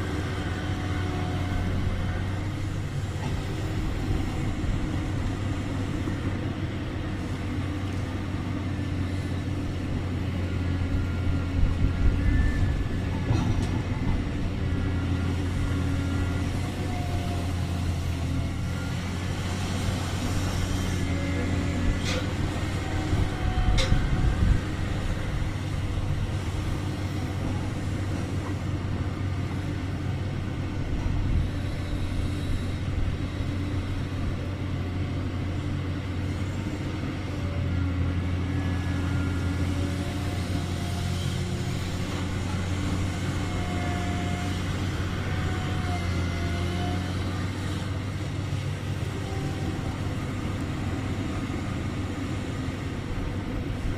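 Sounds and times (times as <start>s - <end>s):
large diesel engine running: 0.0s - 53.9s.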